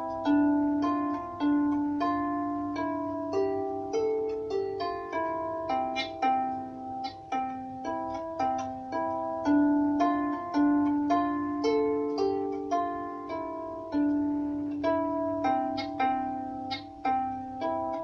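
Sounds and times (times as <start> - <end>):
harp melody: 0.0 - 18.0.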